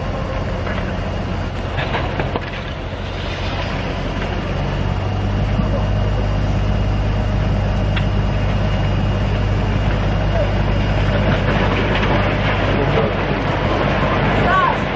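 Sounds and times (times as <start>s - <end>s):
heavy vehicle engine running: 0.0s - 14.9s.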